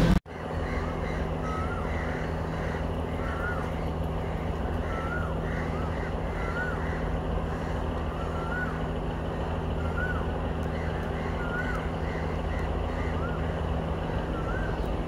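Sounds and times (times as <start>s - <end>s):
low engine drone: 0.0s - 15.0s
bird whistled call: 0.6s - 7.0s, 8.1s - 8.9s, 9.7s - 14.9s.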